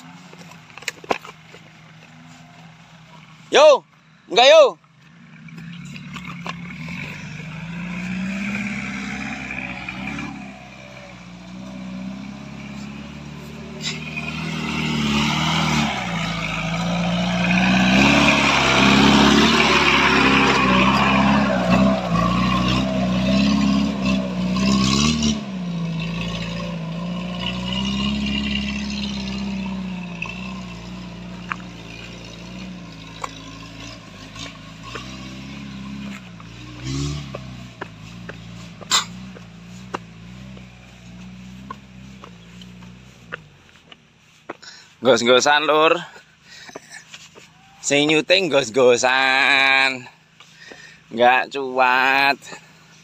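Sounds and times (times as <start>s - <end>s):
off-road engine revving hard: 3.3s - 47.2s, 47.8s - 53.0s.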